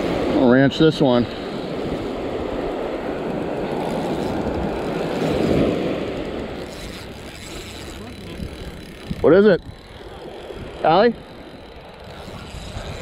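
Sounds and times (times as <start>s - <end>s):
surf breaking on beach: 0.0s - 11.3s.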